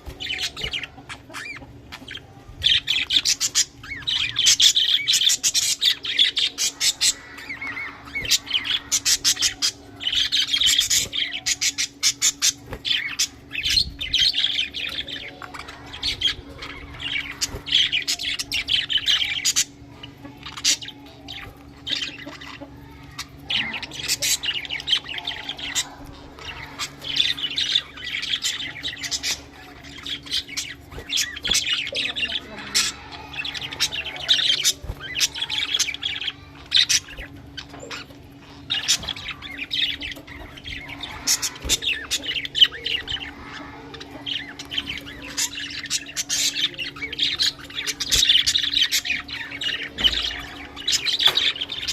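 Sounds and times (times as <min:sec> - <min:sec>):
budgerigars chattering and chirping: 0:00.0 - 0:51.9
steady low hum: 0:00.0 - 0:51.9.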